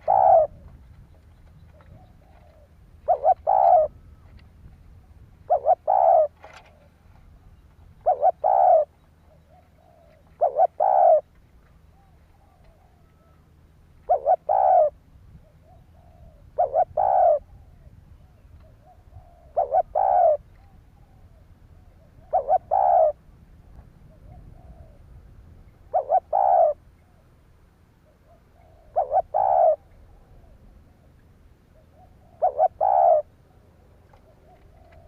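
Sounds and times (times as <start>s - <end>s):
dove cooing: 0.0s - 23.2s, 24.0s - 25.1s, 25.7s - 27.3s, 28.0s - 35.0s.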